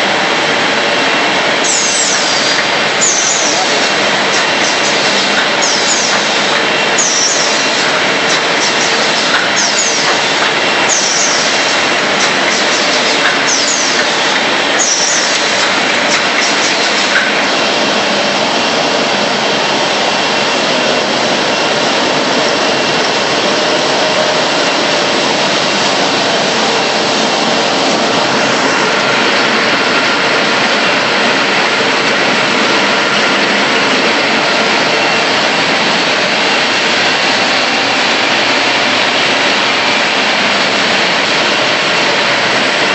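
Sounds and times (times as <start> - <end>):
paper cutting machine running: 0.0 - 42.9.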